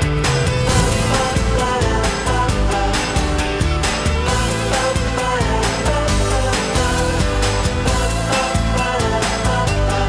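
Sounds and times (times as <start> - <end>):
pop-rock band instrumental: 0.0 - 10.0.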